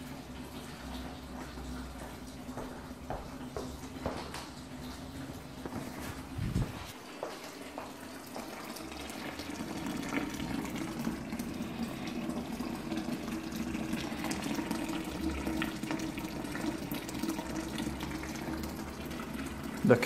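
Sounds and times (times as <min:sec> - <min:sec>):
liquid boiling and bubbling: 0:00.0 - 0:20.0.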